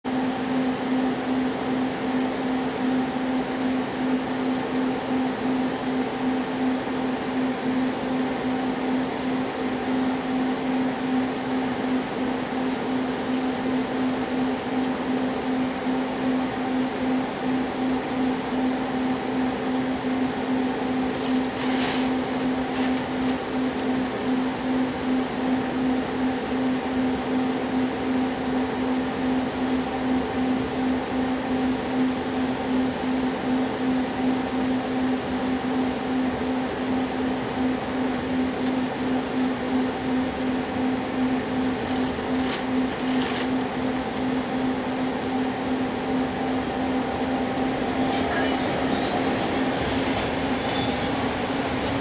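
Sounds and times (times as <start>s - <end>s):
train coach machine hum: 0.1s - 52.0s.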